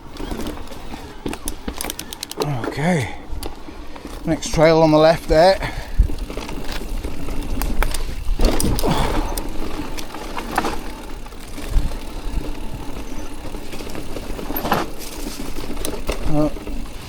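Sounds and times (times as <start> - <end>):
bike rattles and clicks: 0.0 - 17.0
bike tyres rumbling on wet trail: 0.0 - 17.0.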